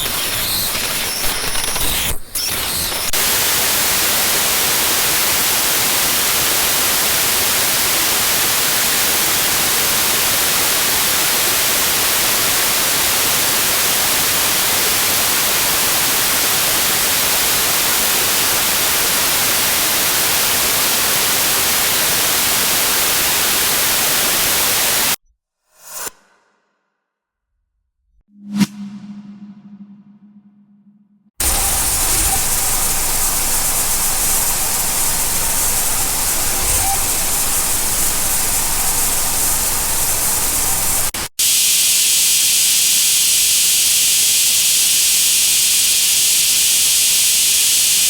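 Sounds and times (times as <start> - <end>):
static white noise hiss: 3.2 - 25.1, 31.4 - 48.0.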